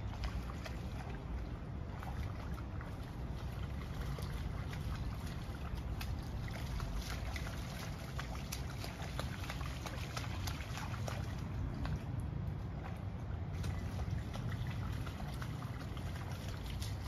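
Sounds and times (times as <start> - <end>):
toddler splashing in a puddle: 0.0 - 17.0.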